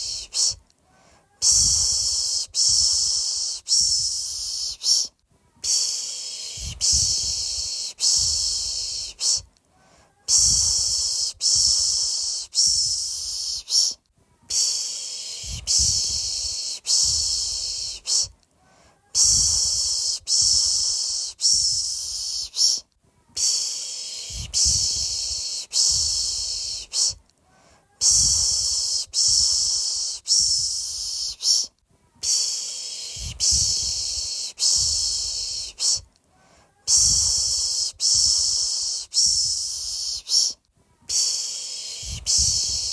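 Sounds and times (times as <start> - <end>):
person shushing hiss: 0.0 - 42.9.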